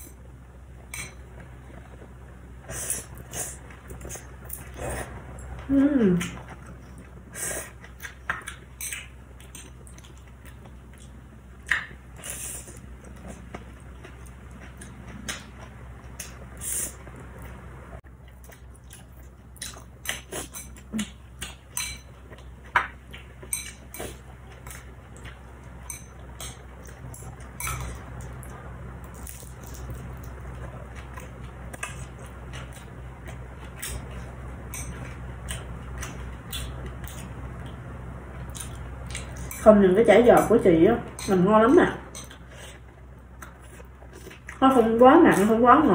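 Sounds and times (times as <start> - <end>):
low steady hum: 0.0 - 45.9.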